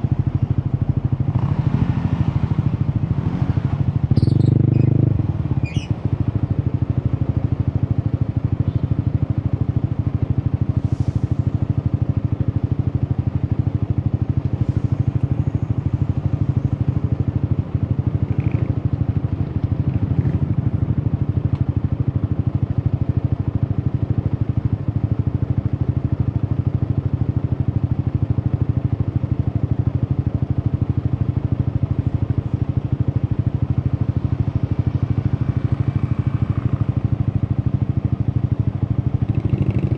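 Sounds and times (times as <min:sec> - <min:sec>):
motorcycle engine running: 0:00.0 - 0:10.8, 0:11.4 - 0:39.9.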